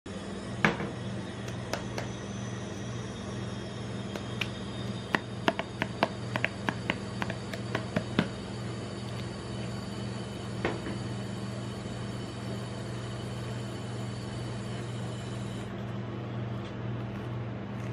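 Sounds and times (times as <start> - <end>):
steady low hum: 0.1 - 17.9.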